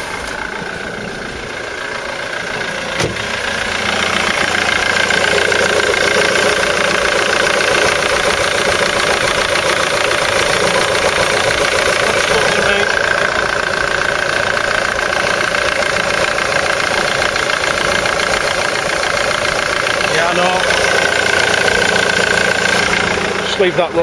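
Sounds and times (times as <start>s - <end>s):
diesel engine idling with rattle: 0.0s - 24.0s.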